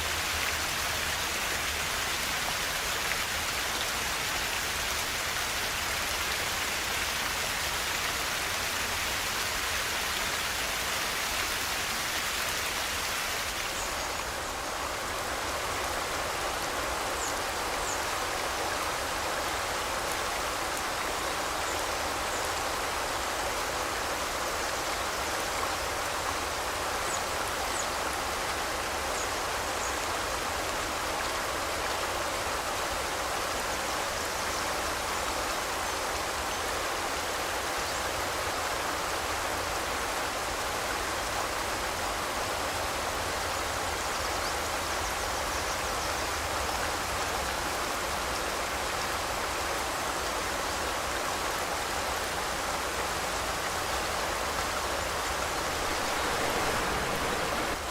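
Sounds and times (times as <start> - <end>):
river flowing: 0.0 - 57.9.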